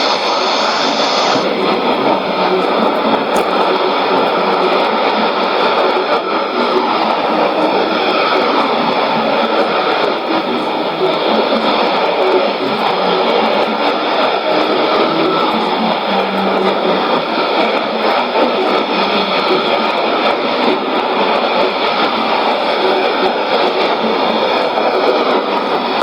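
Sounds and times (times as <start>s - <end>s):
faint steady tones: 0.0s - 26.0s
radio static rushing noise: 0.0s - 26.0s.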